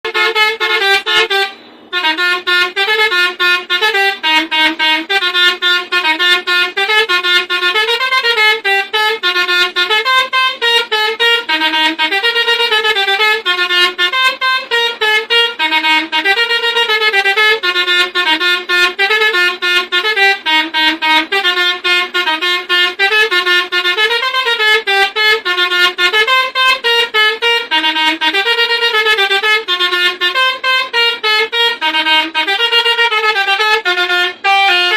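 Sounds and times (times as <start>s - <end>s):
multi-tone bus horn melody: 0.0s - 34.9s.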